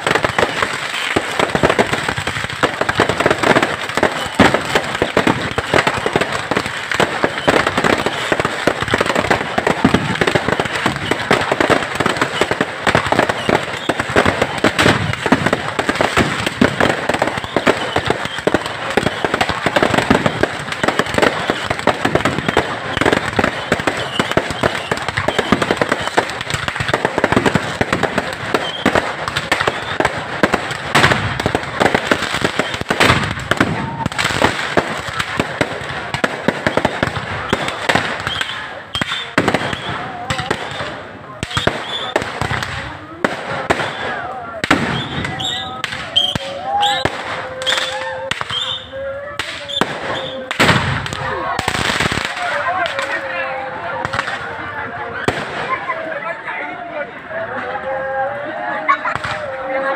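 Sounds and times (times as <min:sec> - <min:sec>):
fireworks and firecrackers crackling: 0:00.0 - 0:59.9.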